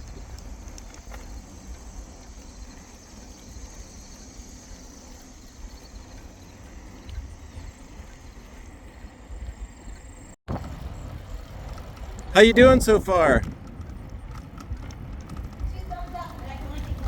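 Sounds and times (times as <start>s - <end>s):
bicycle riding on paved trail: 0.0s - 17.0s
wind rumbling on microphone: 0.0s - 17.0s.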